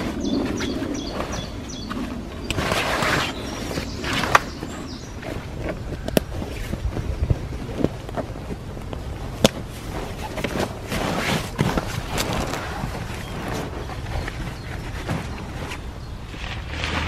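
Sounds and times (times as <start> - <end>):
stiff canvas rustling: 0.0 - 17.0.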